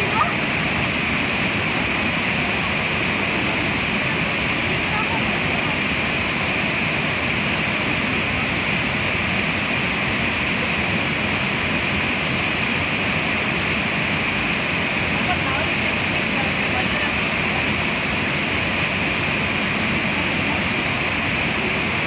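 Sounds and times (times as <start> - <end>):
waterfall rushing into pool: 0.0 - 22.0.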